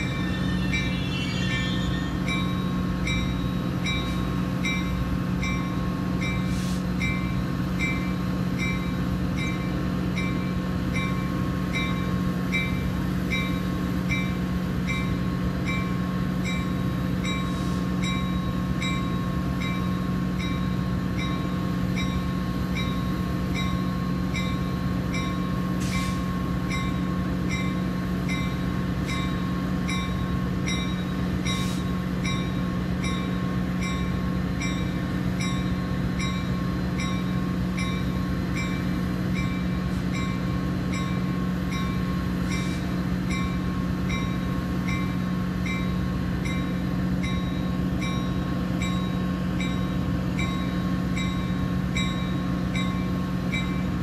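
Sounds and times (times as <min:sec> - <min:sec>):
diesel locomotive idling: 0:00.0 - 0:54.0.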